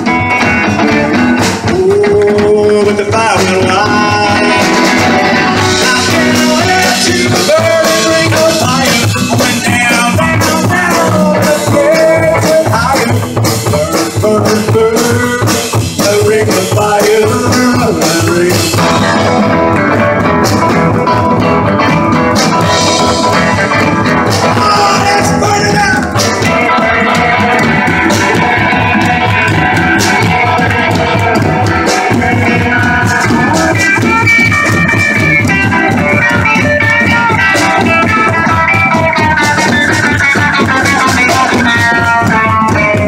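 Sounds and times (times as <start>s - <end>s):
lead guitar line: 0.0s - 43.0s
live rock band playing: 0.0s - 43.0s.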